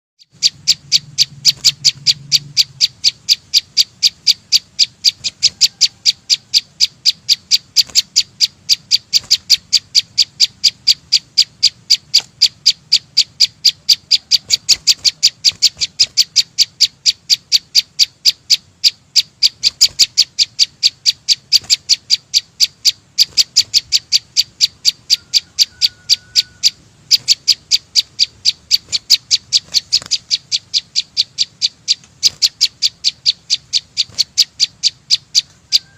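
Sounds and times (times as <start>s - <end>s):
songbird chip notes: 0.2s - 35.9s.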